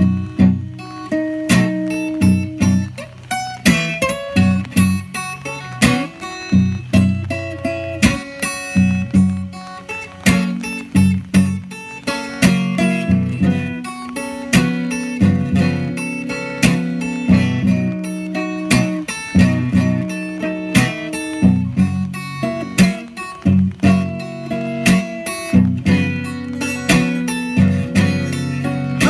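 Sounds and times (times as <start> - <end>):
acoustic guitar playing blues: 0.0 - 29.0.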